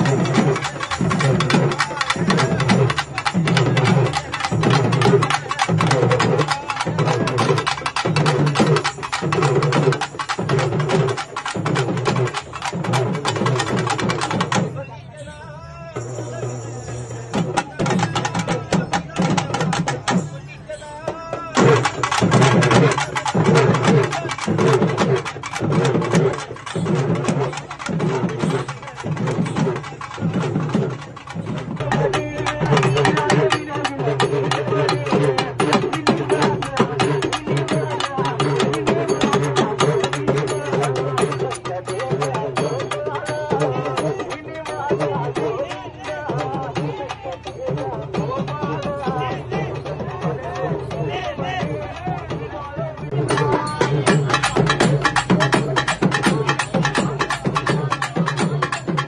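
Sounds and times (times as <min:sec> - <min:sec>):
barrel drums beaten rapidly: 0:00.0 - 0:14.9, 0:16.0 - 0:59.0.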